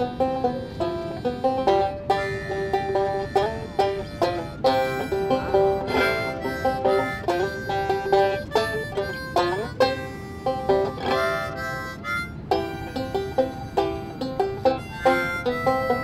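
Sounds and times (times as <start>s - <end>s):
banjo picking: 0.0s - 16.0s
harmonica playing: 0.0s - 16.0s.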